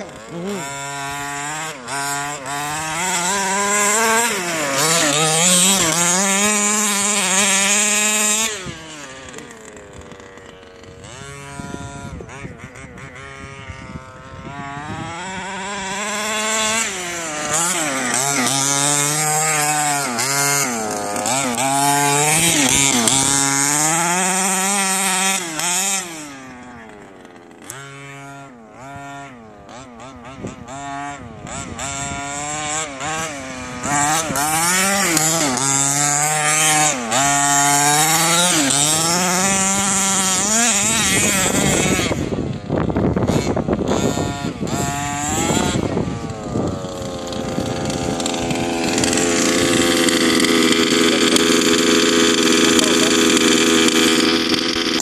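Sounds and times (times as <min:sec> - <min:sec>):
small two-stroke engine revving: 0:00.0 - 0:55.0.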